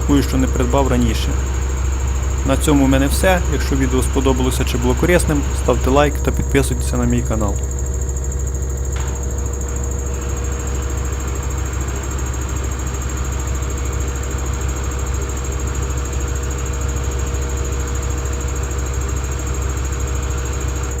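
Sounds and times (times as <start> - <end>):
faint steady whine: 0.0 - 21.0
washing machine running: 0.0 - 21.0.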